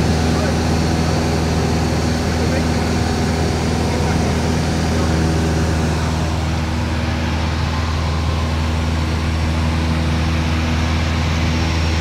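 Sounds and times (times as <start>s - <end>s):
airplane engine droning in cabin: 0.0s - 12.0s.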